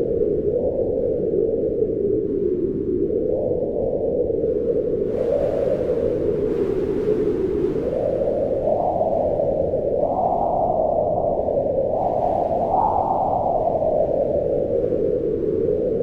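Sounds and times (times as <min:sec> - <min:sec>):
howling wind: 0:00.0 - 0:16.0.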